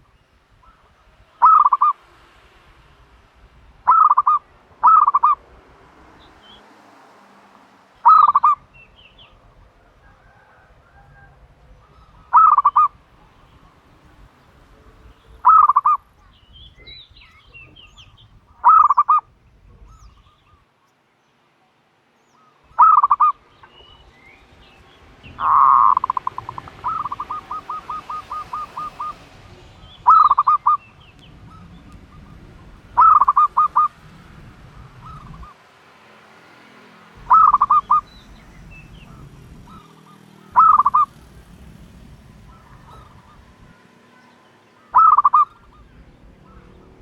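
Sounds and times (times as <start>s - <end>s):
dove cooing: 0.6s - 2.0s, 3.8s - 5.4s, 8.0s - 20.4s, 22.7s - 35.6s, 37.2s - 47.0s.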